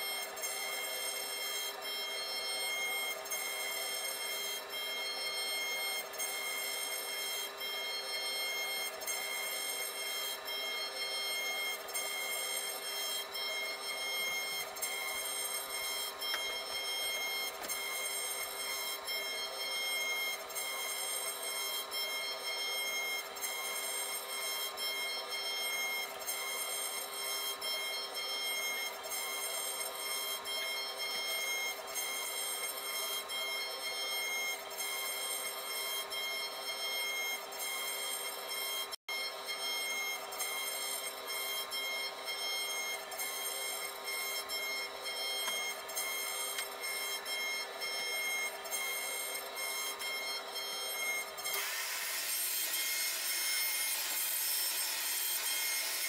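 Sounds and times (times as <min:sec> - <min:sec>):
bit cutting into wood: 0:00.0 - 0:56.0
router spindle high whine: 0:00.0 - 0:56.0.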